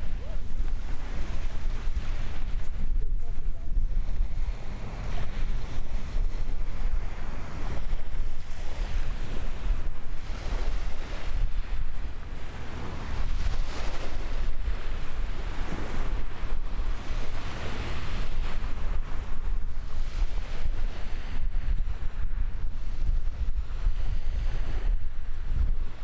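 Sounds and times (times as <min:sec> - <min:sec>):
wind buffeting the microphone: 0:00.0 - 0:26.0.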